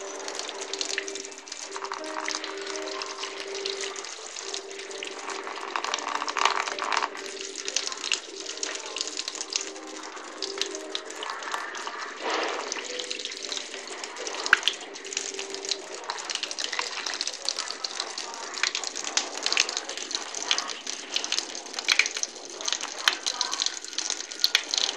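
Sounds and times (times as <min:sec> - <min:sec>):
tap water splashing: 0:00.0 - 0:24.9.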